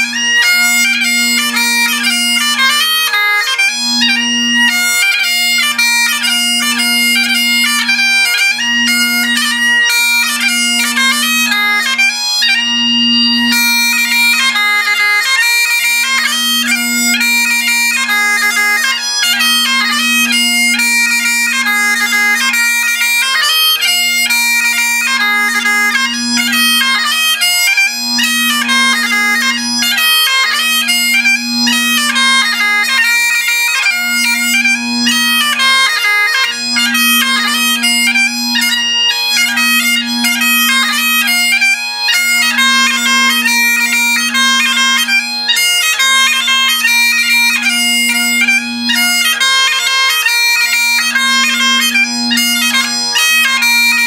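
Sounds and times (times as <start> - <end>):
bagpipe chanter melody: 0.0 - 54.0
bagpipe drones humming: 0.0 - 54.0.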